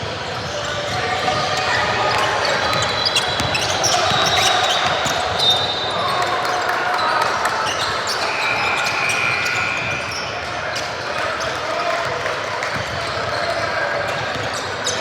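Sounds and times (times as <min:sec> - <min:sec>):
voices echoing in gym: 0:00.0 - 0:15.0.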